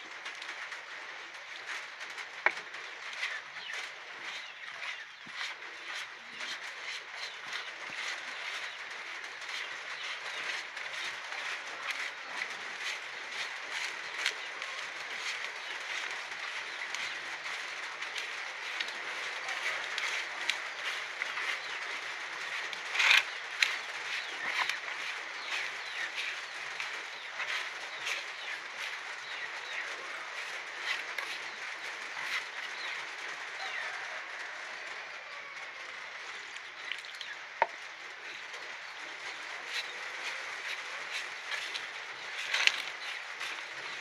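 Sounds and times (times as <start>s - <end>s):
hand mixing damp feed: 0.0s - 33.1s, 36.7s - 44.0s.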